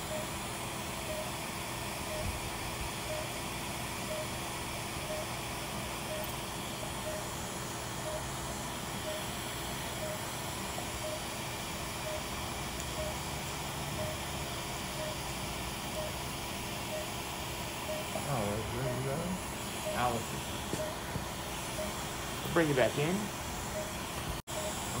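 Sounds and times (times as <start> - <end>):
patient monitor beeping: 0.0 - 0.4, 1.0 - 2.3, 3.0 - 7.3, 8.0 - 8.3, 9.0 - 16.2, 16.8 - 25.0
equipment hiss and hum: 0.0 - 25.0.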